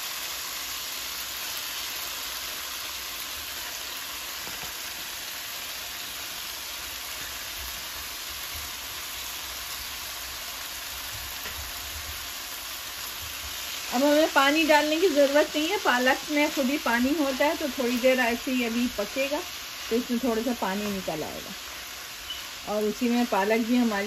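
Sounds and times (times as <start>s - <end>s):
spinach sizzling in a wok: 0.0s - 24.0s.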